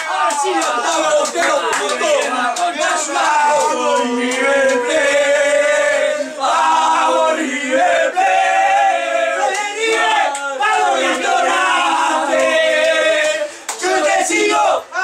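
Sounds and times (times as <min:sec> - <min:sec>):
men singing football chant: 0:00.1 - 0:15.0.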